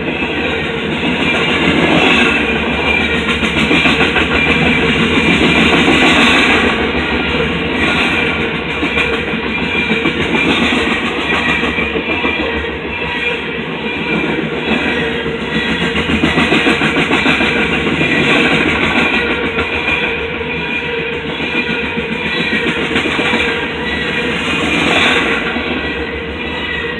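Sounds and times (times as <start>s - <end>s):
train cars rolling on rails: 0.0s - 26.9s.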